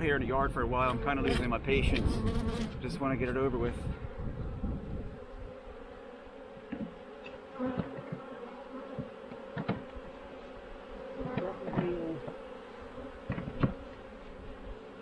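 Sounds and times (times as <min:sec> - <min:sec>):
bees buzzing: 0:00.8 - 0:15.0.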